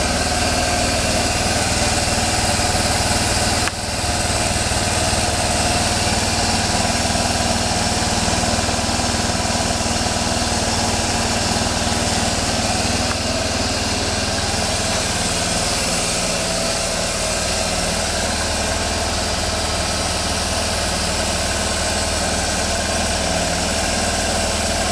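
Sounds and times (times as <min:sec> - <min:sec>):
scooter engine idling: 0:00.0 - 0:24.9.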